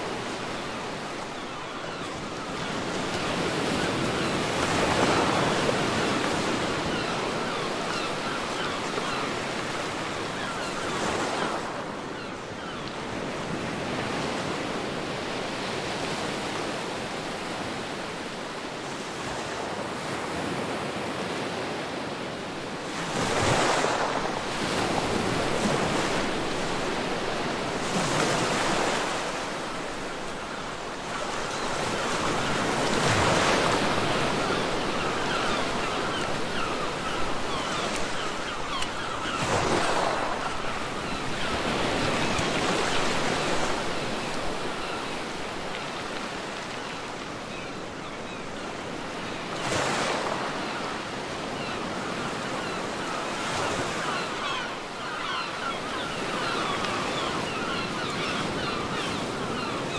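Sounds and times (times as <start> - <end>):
ocean waves breaking: 0.0 - 59.9
wind: 0.0 - 59.9.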